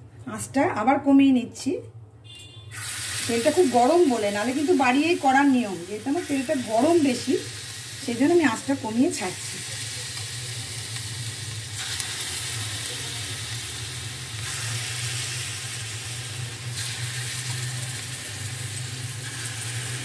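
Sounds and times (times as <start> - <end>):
batter sizzling in hot oil: 2.7 - 20.0.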